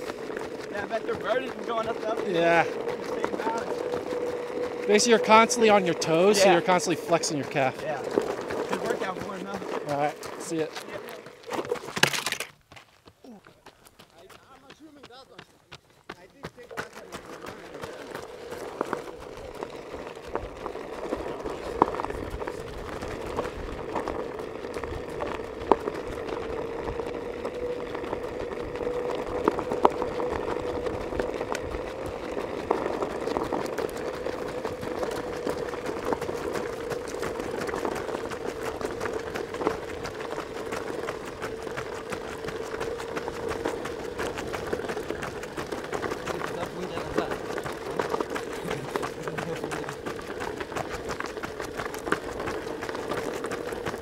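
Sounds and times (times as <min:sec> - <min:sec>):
motor running steadily: 0:00.0 - 0:54.0.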